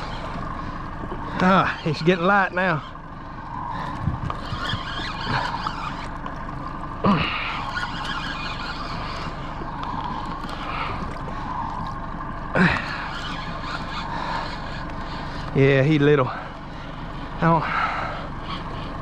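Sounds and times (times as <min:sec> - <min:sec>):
boat motor running: 0:00.0 - 0:19.0
water noise: 0:00.0 - 0:19.0
wind: 0:00.0 - 0:19.0.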